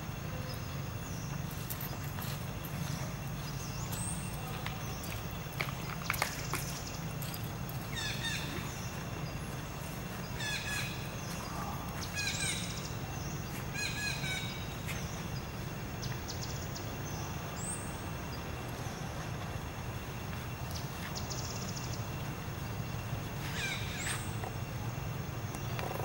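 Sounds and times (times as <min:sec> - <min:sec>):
birds chirping: 0:00.0 - 0:26.0
low outdoor hum: 0:00.0 - 0:26.0.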